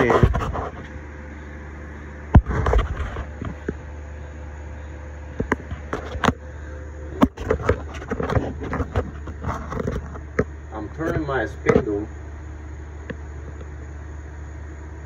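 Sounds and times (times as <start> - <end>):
mill spindle motor humming: 0.0 - 15.0.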